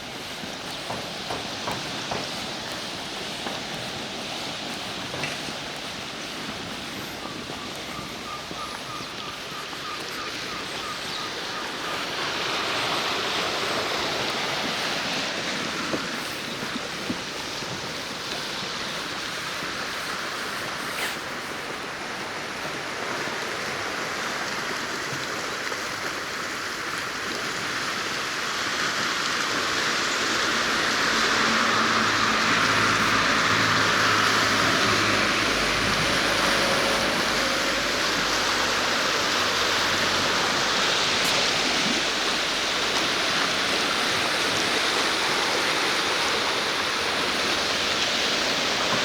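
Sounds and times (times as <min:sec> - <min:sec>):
rushing water: 0:00.0 - 0:49.0.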